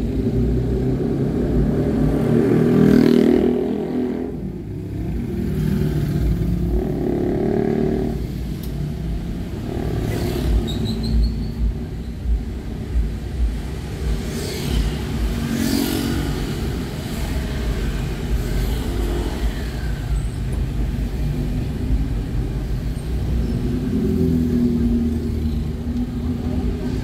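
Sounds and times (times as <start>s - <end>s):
engine and road noise rumble: 0.0s - 27.0s
passing vehicles whooshing: 0.0s - 27.0s.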